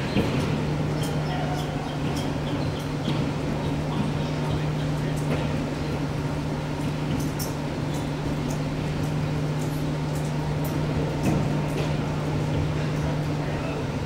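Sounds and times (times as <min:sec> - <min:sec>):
low ventilation hum: 0:00.0 - 0:14.0.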